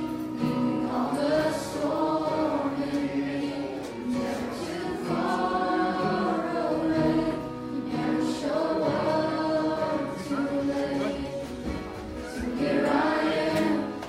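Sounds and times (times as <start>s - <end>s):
young voices singing gospel: 0.0s - 14.0s.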